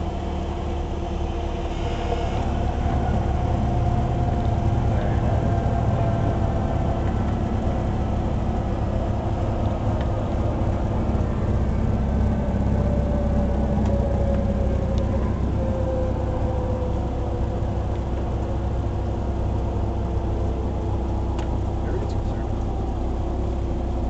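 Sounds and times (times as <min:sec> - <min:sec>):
light aircraft engine drone: 0:00.0 - 0:24.0.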